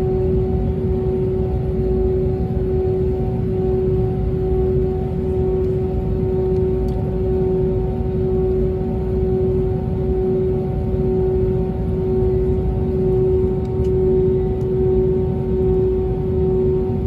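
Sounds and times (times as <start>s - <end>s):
aircraft cabin drone: 0.0s - 17.0s.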